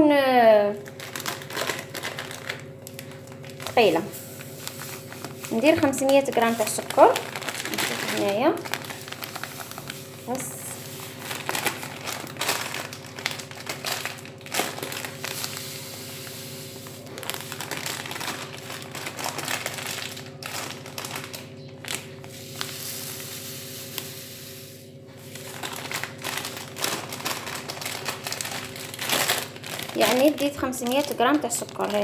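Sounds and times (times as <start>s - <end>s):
steady low hum: 0.0s - 32.0s
plastic sachet crinkling: 0.7s - 16.0s, 16.6s - 24.2s, 25.2s - 32.0s.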